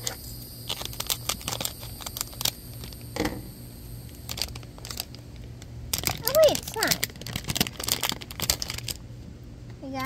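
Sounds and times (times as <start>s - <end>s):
foil packet crinkling: 0.0s - 3.2s, 4.0s - 9.1s.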